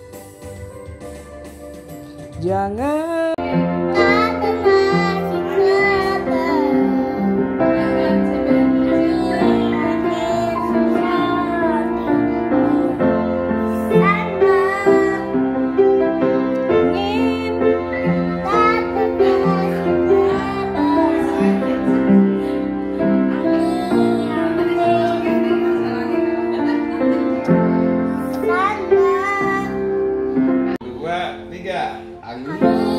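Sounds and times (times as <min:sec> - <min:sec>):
piano chords and melody: 0:00.0 - 0:32.9
girl singing: 0:02.4 - 0:15.8, 0:16.6 - 0:30.0, 0:32.3 - 0:32.9.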